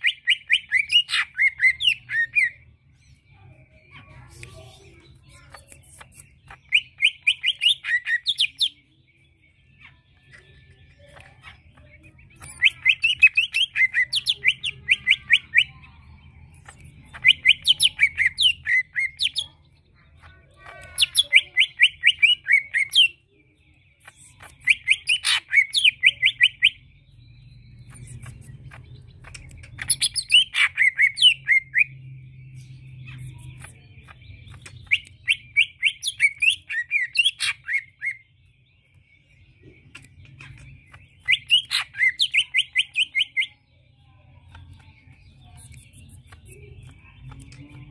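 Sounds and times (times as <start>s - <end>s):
bird singing rapid sharp notes: 0.0s - 47.9s.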